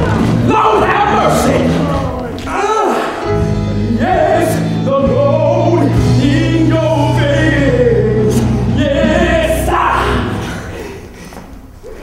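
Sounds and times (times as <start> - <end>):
band with steady bass: 0.0 - 2.4, 3.3 - 10.7
singers performing gospel-style song: 0.0 - 12.0.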